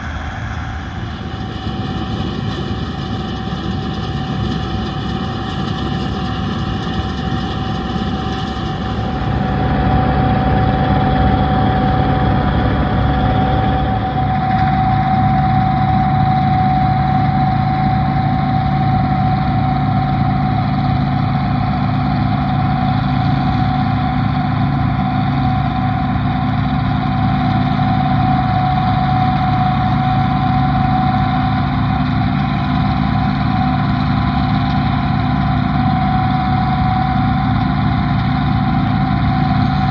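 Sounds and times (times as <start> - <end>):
high whine: 0.0 - 32.6
combine harvester diesel engine: 0.0 - 39.9.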